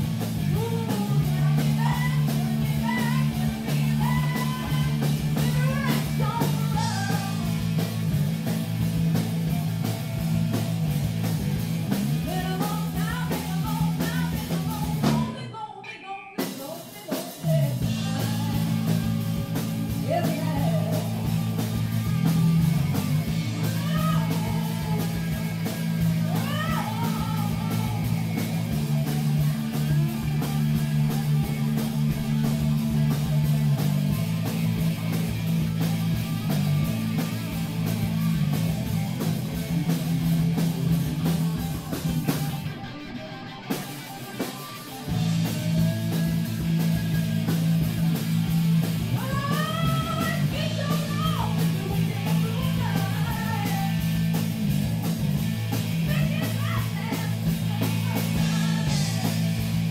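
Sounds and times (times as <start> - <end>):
drum kit: 0.0 - 15.4, 16.4 - 59.9
bass guitar: 0.0 - 15.5, 17.2 - 59.9
electric guitar: 0.0 - 59.9.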